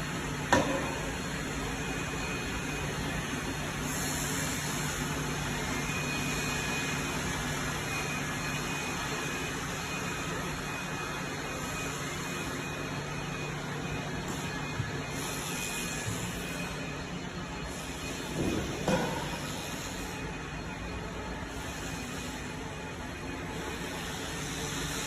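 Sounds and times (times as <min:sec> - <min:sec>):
machinery hum and hiss: 0:00.0 - 0:25.0.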